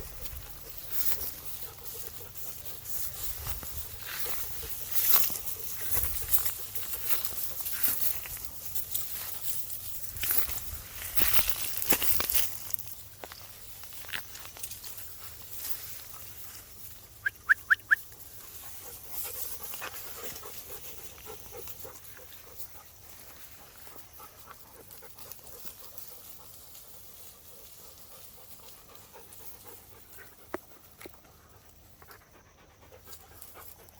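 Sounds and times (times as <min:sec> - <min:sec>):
quiet dog noises: 0:00.0 - 0:33.9.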